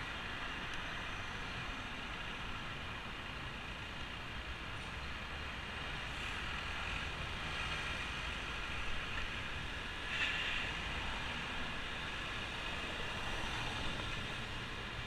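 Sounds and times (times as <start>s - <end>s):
city traffic: 0.0s - 15.0s
wind and road rush: 0.0s - 15.0s.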